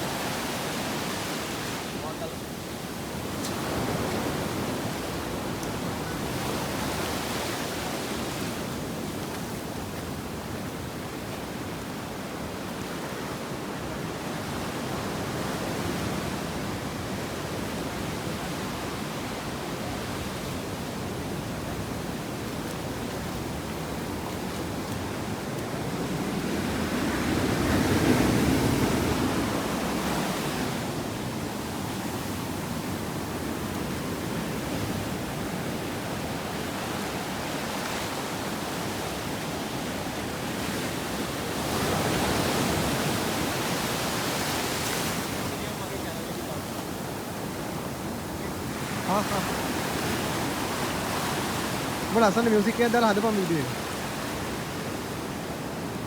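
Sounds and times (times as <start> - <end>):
ocean surf on beach: 0.0 - 56.0.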